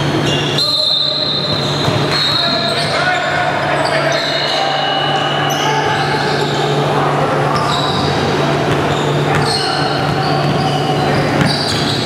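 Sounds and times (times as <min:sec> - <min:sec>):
sneaker squeaks: 0:00.0 - 0:12.0.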